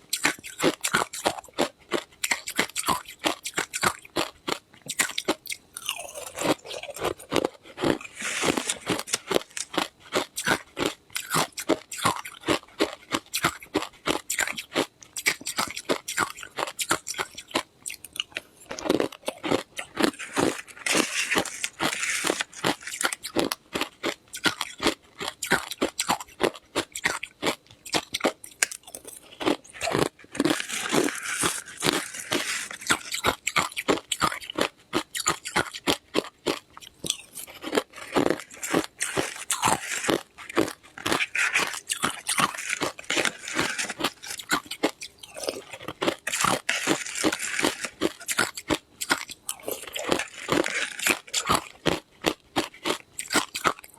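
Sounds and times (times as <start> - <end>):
ice crunching between teeth: 0.1 - 53.9.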